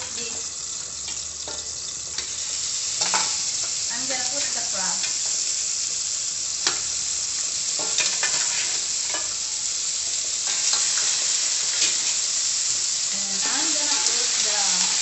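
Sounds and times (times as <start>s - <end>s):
crabs sizzling in hot oil: 0.0s - 15.0s.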